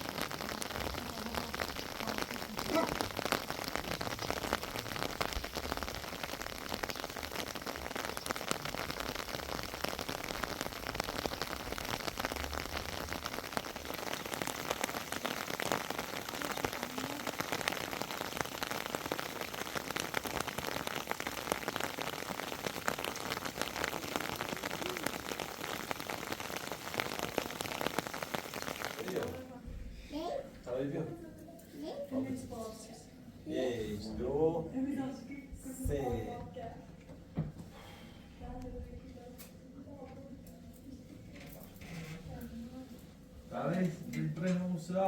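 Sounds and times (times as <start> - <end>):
steady rain hiss: 0.0 - 31.0, 31.8 - 36.4, 43.5 - 45.0.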